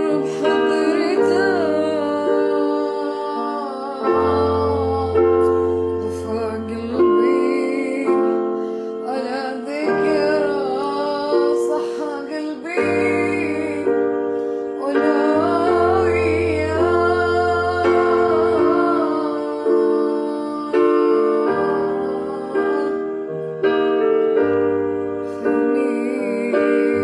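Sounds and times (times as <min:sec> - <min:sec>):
woman singing: 0:00.0 - 0:23.3, 0:25.3 - 0:27.0
keyboard chords: 0:00.0 - 0:27.0.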